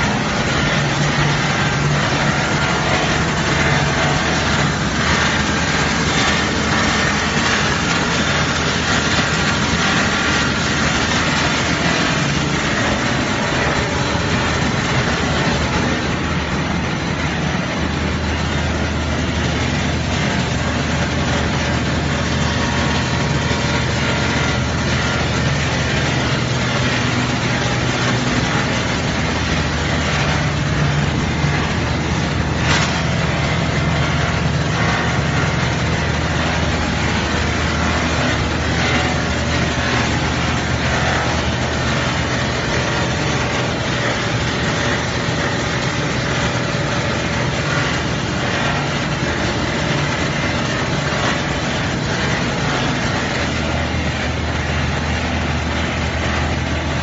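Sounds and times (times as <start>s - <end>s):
machine hum: 0.0s - 57.0s
rollers and motors whirring: 0.0s - 57.0s.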